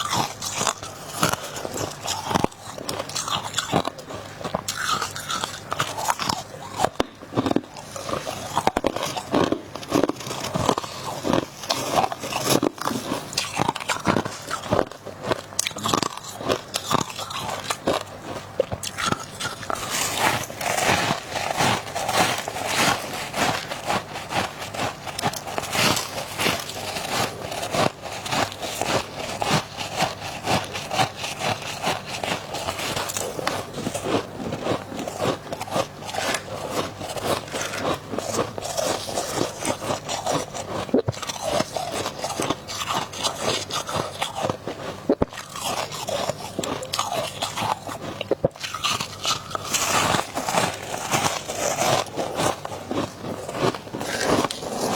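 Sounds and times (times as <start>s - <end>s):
chewing ice crunches: 0.0s - 54.9s.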